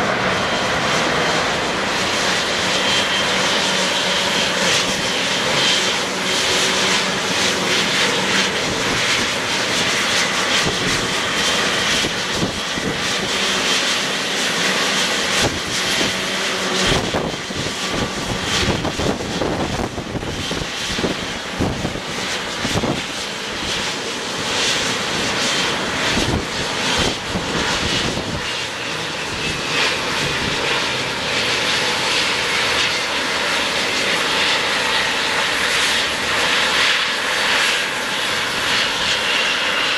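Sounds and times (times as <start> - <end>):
jet engines idling: 0.0 - 39.9.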